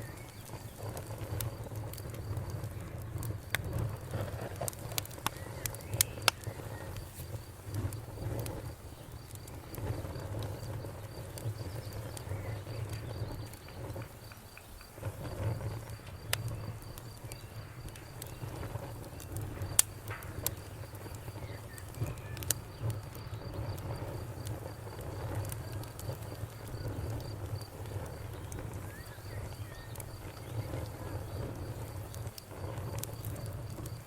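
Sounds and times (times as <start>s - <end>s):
campfire crackling and popping: 0.0s - 34.0s
insect chirping steadily: 0.0s - 34.0s.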